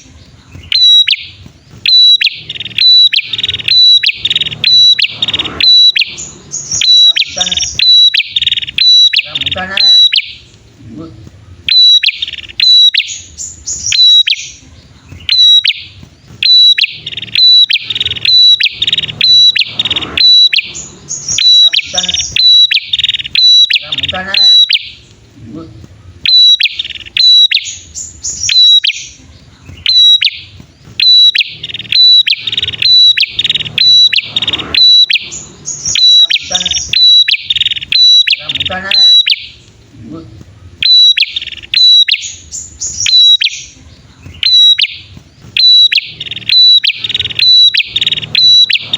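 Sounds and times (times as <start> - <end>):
birds chirping sharply: 0.0 - 48.9.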